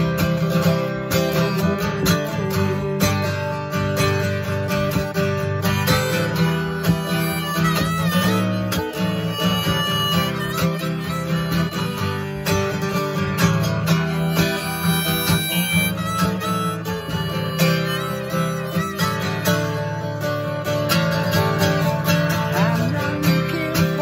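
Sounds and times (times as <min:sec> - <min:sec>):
acoustic guitar strumming: 0:00.0 - 0:24.0
harmonica melody: 0:00.0 - 0:24.0.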